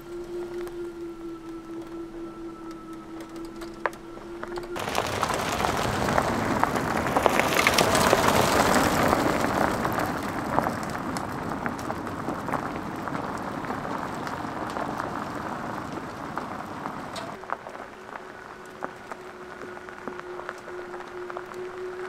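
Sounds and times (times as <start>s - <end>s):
tyres crunching over gravel: 3.2s - 22.0s.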